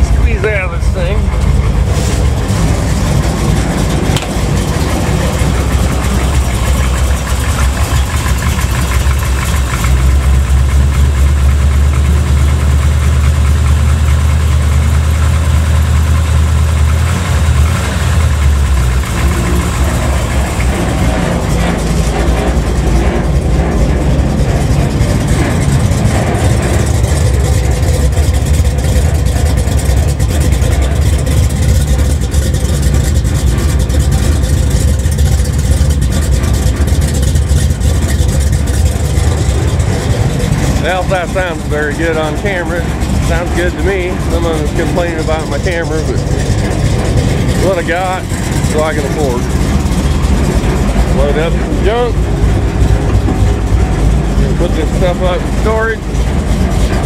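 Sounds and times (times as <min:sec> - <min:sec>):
car engine idling low exhaust: 0:00.0 - 0:57.0.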